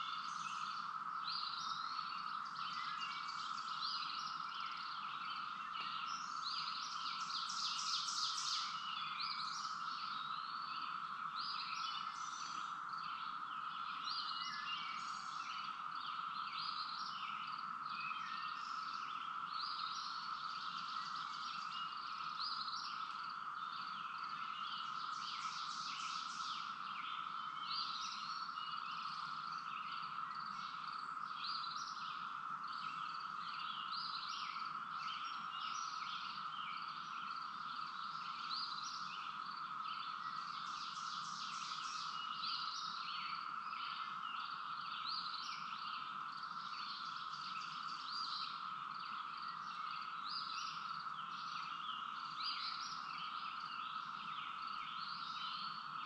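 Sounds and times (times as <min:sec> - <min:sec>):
insects chirping: 0:00.0 - 0:56.0
steady insect hum: 0:00.0 - 0:56.0.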